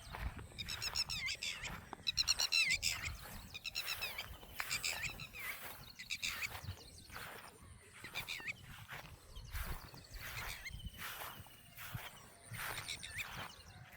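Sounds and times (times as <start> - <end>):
small songbirds singing: 0.0 - 13.9.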